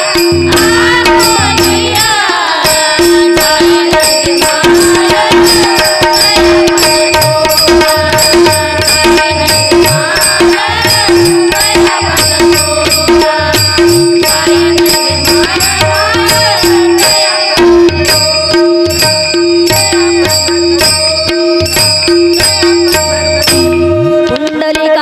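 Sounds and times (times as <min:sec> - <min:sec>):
tabla percussion rhythm: 0:00.0 - 0:25.0.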